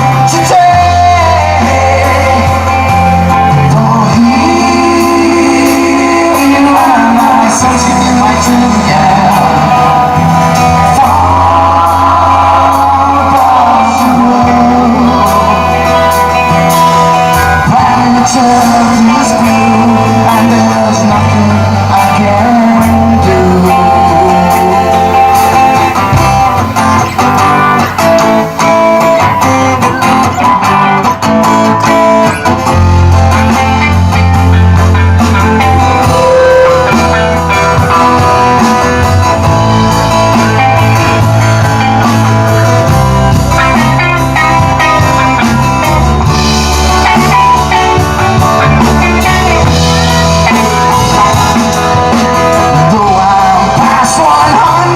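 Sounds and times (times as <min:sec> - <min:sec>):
live rock band: 0:00.0 - 0:54.9.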